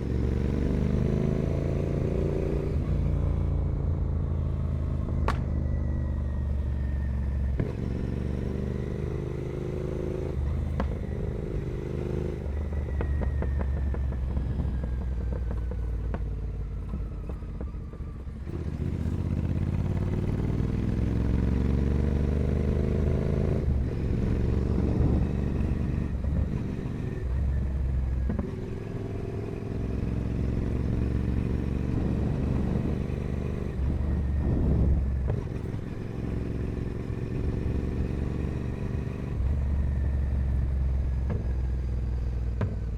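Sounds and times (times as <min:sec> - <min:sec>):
motorcycle engine revving through gears: 0:00.0 - 0:42.9.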